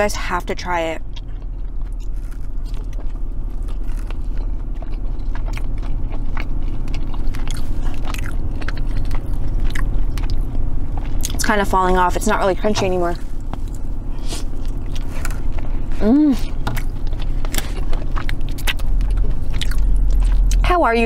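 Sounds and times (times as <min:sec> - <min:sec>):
chewing and mouth sounds: 0:00.0 - 0:21.0
low hum: 0:00.0 - 0:21.0.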